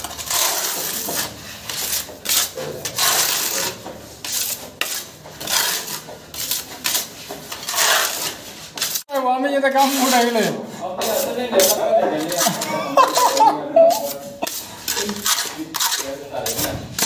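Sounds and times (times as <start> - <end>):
putty knife scraping plaster wall: 0.0 - 17.0.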